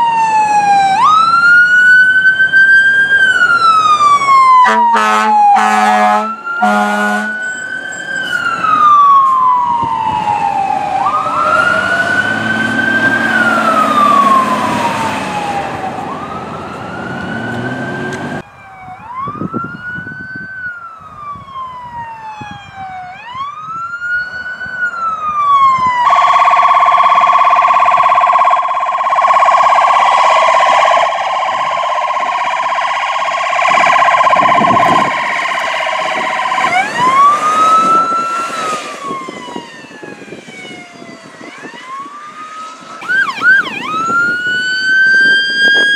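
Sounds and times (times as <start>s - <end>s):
fire engine siren wailing: 0.0s - 45.9s
siren in quick sweeps and warble: 0.0s - 45.9s.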